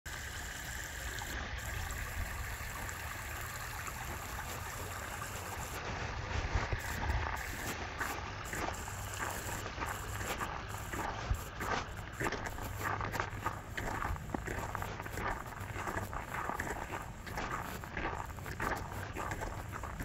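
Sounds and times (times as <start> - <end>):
creek flowing: 0.1 - 20.0.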